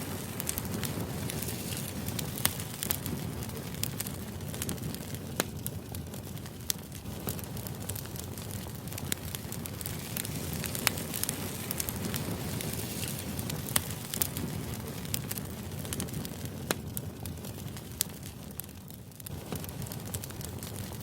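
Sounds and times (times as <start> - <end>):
sharp crackles and clicks: 0.0 - 21.0.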